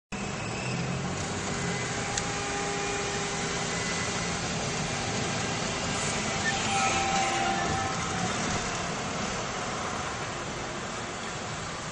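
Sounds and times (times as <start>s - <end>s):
car road and engine noise: 0.1s - 11.9s.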